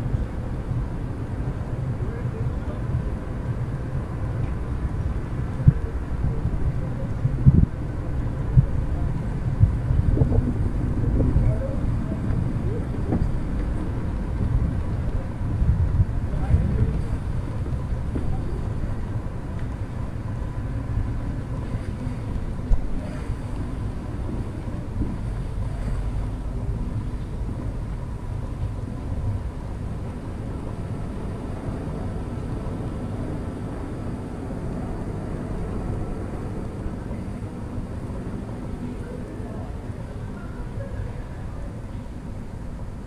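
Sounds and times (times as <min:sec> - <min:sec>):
faint steady hum: 0:00.0 - 0:43.0
low rumble: 0:00.0 - 0:43.0.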